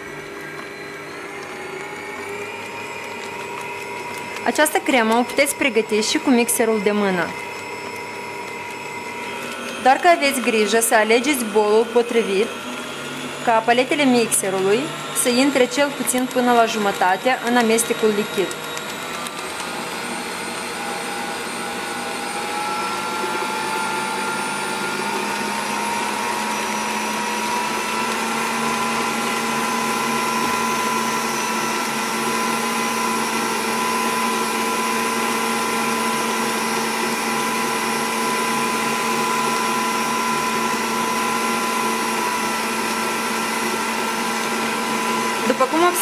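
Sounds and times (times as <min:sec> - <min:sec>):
stand mixer whisking cream: 0:00.0 - 0:46.0.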